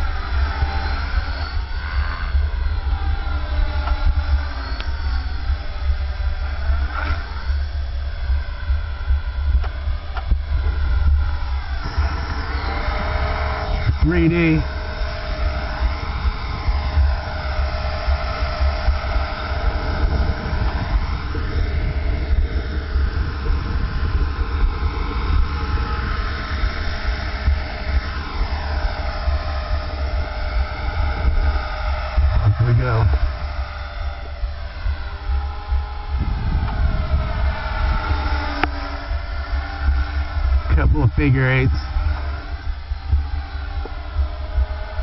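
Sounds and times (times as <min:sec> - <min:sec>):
low rumble: 0:00.0 - 0:45.0
rc helicopter whine: 0:00.0 - 0:45.0
wind buffeting microphone: 0:00.0 - 0:45.0.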